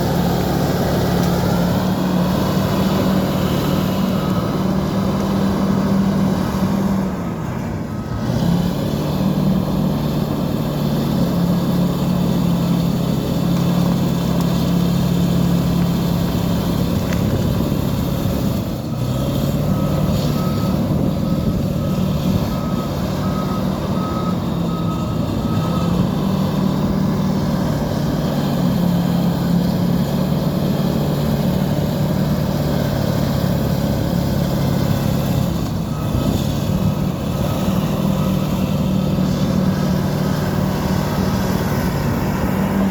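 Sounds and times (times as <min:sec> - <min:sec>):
reversing alarm beeping: 0:00.0 - 0:12.7, 0:16.7 - 0:29.7, 0:31.4 - 0:42.9
bulldozer diesel engine running: 0:00.0 - 0:42.9.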